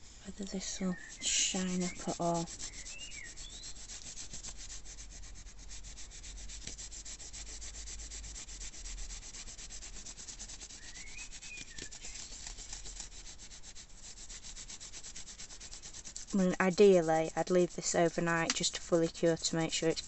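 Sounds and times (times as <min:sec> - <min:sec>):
towel rubbing hard casting: 0:00.0 - 0:17.9.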